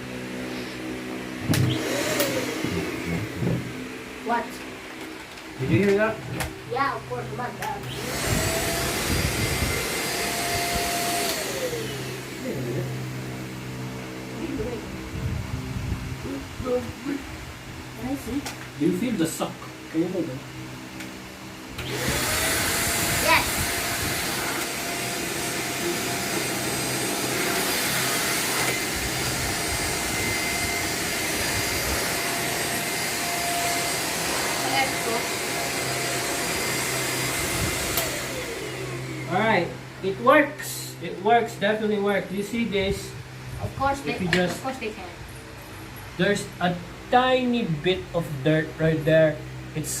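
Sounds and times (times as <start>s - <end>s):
vacuum cleaner running: 0.0s - 45.4s.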